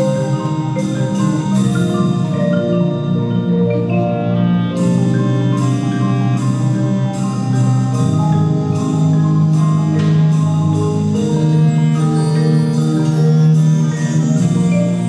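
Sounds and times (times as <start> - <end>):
brass and wind chords: 0.0 - 15.0
mallet percussion notes: 0.0 - 15.0.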